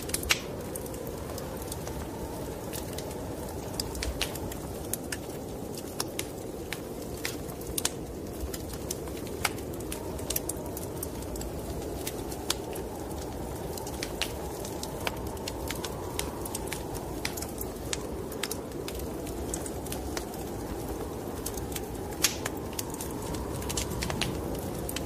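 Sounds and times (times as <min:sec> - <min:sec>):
snowstorm wind rushing: 0:00.0 - 0:25.0
wood fire crackling: 0:00.0 - 0:25.0.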